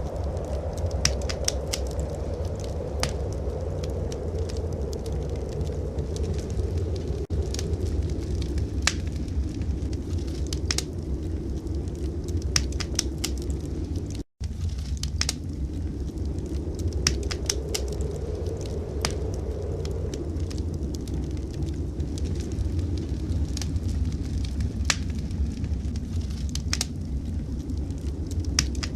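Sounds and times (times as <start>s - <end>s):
blizzard wind rumble: 0.0s - 28.9s
wood fire crackling: 0.0s - 28.9s.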